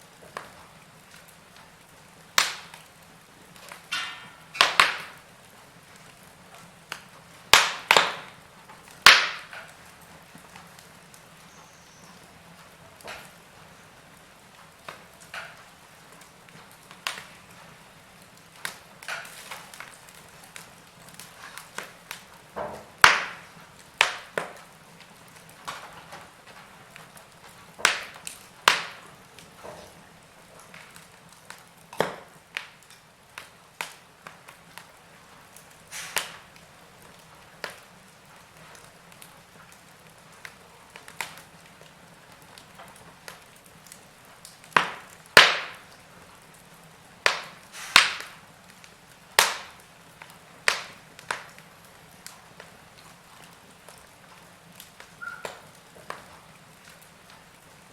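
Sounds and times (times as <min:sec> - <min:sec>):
faint steady hiss: 0:00.0 - 0:57.9
logs crackling in fireplace: 0:00.0 - 0:57.9.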